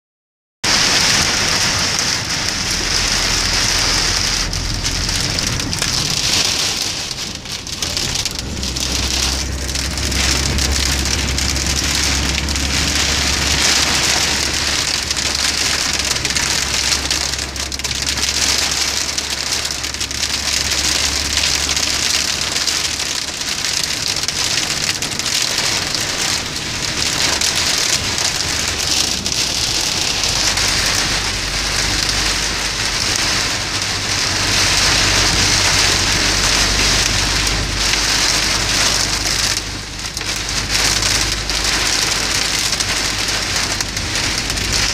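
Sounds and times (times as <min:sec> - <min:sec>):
heavy rain on car roof: 0:00.6 - 0:44.9.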